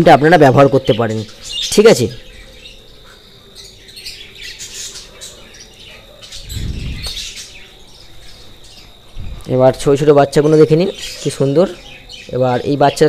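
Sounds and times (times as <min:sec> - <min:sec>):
budgerigars chirping: 0:00.3 - 0:09.1, 0:10.2 - 0:13.0.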